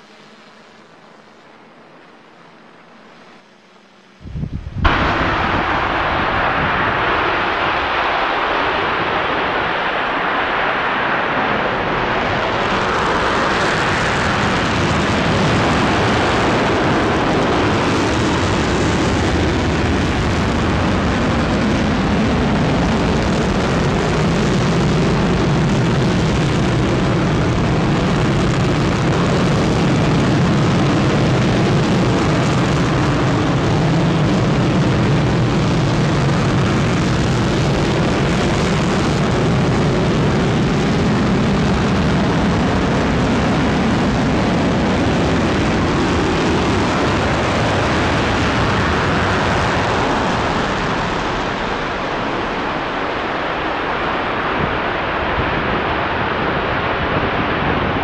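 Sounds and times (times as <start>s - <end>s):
loud engine roar: 4.8s - 53.0s.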